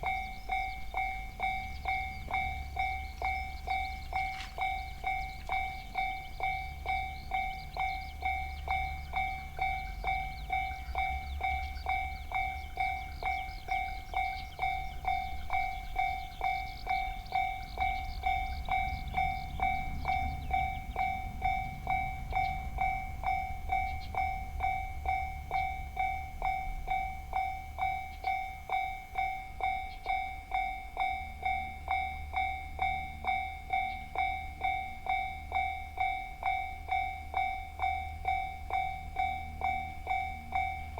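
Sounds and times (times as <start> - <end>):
railroad crossing alarm bell: 0.0 - 40.9
train rumble: 0.0 - 40.9.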